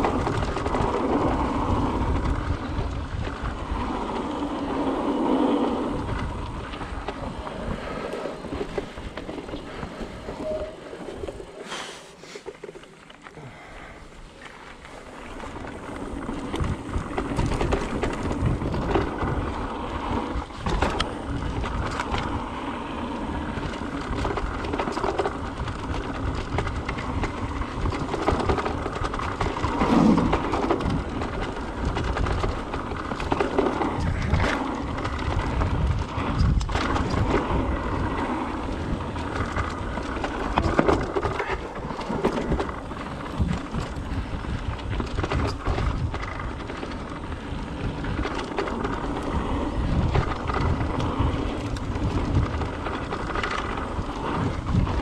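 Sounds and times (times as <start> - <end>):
bike rattling and knocking: 0.0 - 11.4, 14.4 - 55.0
wind rumbling on microphone: 0.0 - 11.6, 13.4 - 55.0
bike tyres rolling on dirt: 0.0 - 55.0.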